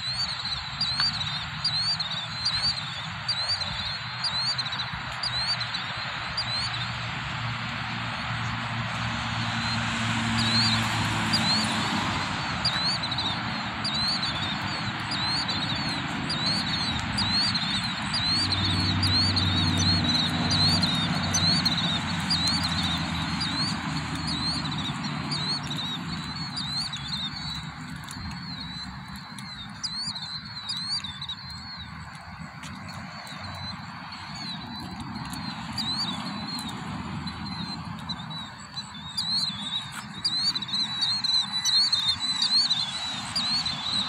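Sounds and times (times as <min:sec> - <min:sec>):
birds screeching: 0:00.0 - 0:44.0
low vehicle hum: 0:05.7 - 0:42.3.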